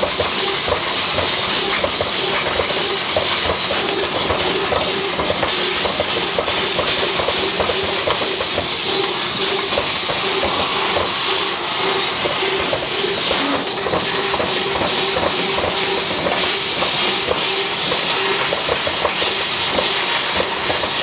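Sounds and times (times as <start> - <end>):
laser cutter gas jet hissing: 0.0 - 21.0.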